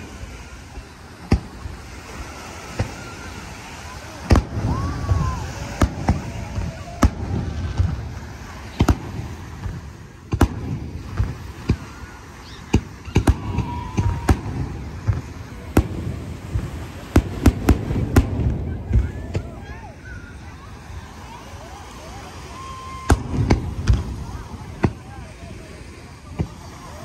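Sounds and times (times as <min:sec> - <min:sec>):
fireworks bangs: 0:00.0 - 0:21.1, 0:22.3 - 0:27.0.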